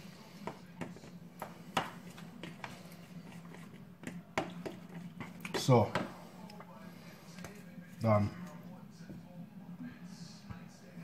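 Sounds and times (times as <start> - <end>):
spoon stirring thick cream: 0.0 - 9.3.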